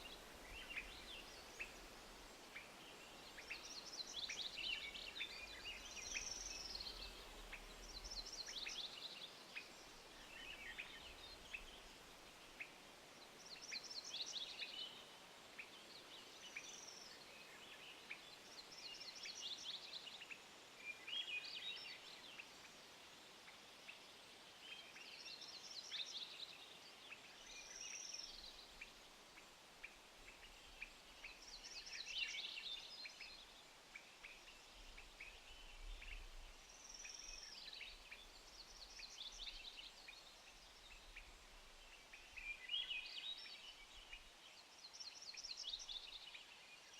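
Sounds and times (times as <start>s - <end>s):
faint steady hiss: 0.0s - 46.9s.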